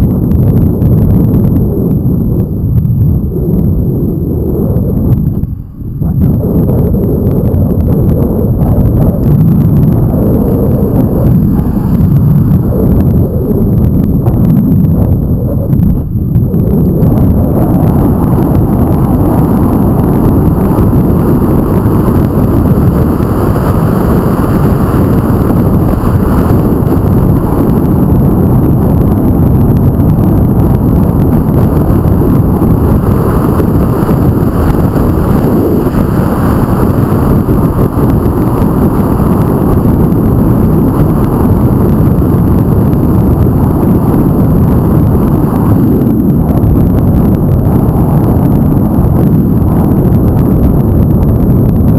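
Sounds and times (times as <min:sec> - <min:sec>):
loud wind buffeting microphone: 0:00.0 - 0:51.9.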